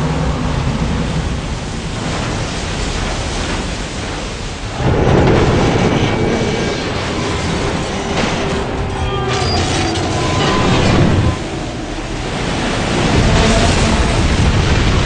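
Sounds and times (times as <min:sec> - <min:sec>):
wave rushing and crashing: 0:00.0 - 0:15.0.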